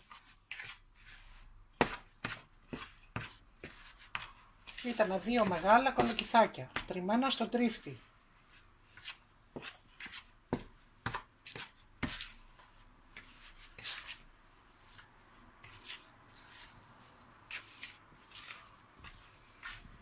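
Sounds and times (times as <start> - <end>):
fork scraping batter: 0.0 - 7.0, 7.7 - 20.0.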